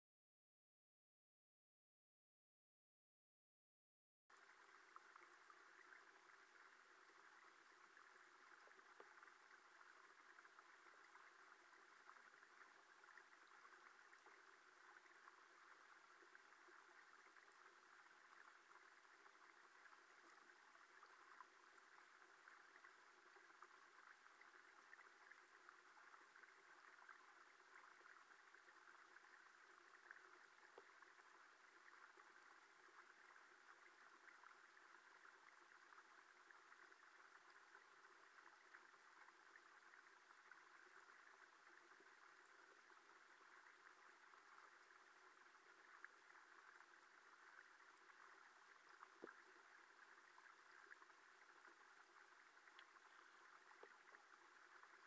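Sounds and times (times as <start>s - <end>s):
stream water rushing underwater: 4.3s - 55.0s.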